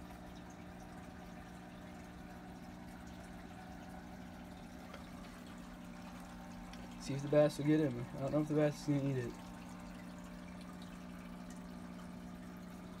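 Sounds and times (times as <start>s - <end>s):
aquarium filter hum: 0.0s - 13.0s
water trickling: 0.0s - 13.0s.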